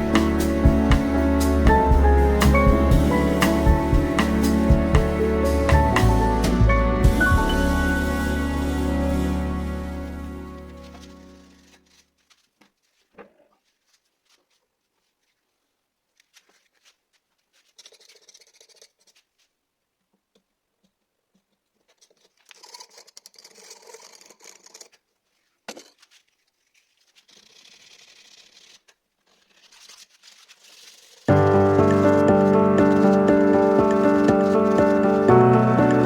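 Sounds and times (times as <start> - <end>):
scratchy rubbing on a surface: 0.0 - 19.5, 21.8 - 36.0.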